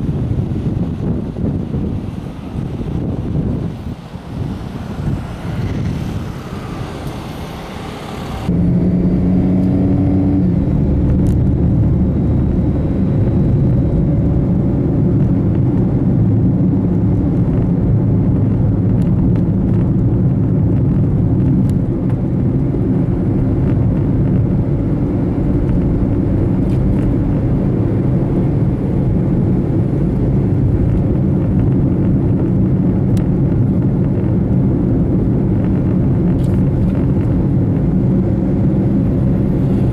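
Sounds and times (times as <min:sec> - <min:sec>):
car driving rumble: 0:00.0 - 0:39.9
wind buffeting microphone: 0:00.0 - 0:39.9.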